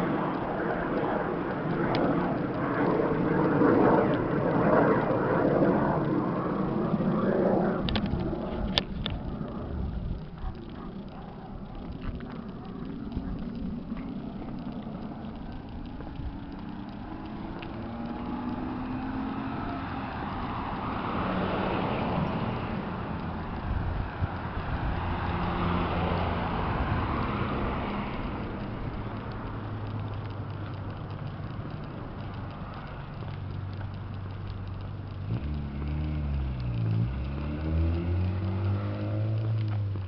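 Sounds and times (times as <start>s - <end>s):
cars passing: 0.0s - 40.0s
low steady rumble: 0.0s - 40.0s.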